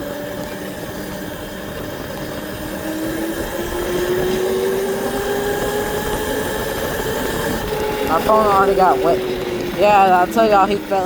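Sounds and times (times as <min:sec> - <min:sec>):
constant rushing noise: 0:00.0 - 0:11.0
motorbike engine accelerating: 0:00.0 - 0:11.0.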